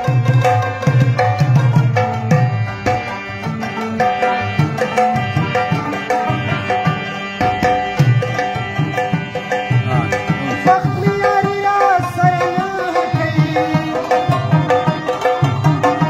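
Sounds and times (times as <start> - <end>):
hand drum rhythm: 0.0 - 16.0
harmonium melody: 0.0 - 16.0.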